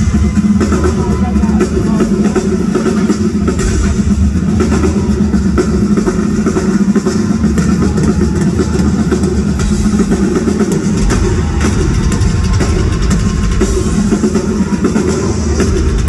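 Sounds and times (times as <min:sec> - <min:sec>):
live rock drum solo: 0:00.0 - 0:16.0.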